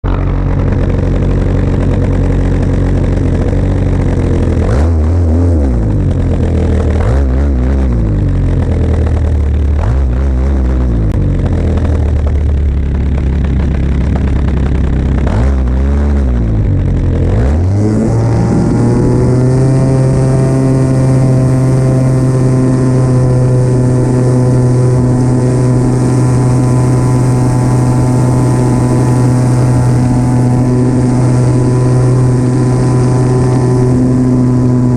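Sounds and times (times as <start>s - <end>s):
model airplane engine: 0.0s - 34.9s.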